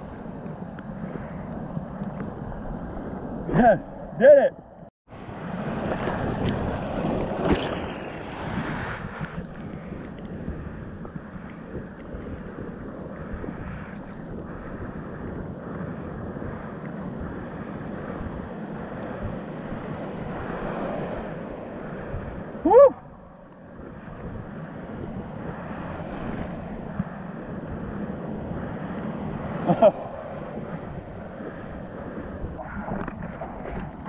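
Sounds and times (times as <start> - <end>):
surf foaming and washing: 0.0 - 4.5, 5.1 - 34.0
wind on microphone: 0.0 - 34.0.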